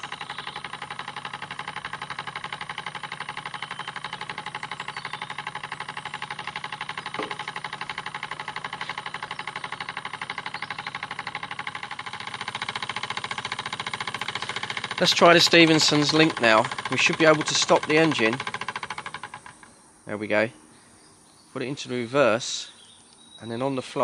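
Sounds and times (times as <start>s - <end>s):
model steam engine running: 0.0s - 19.7s.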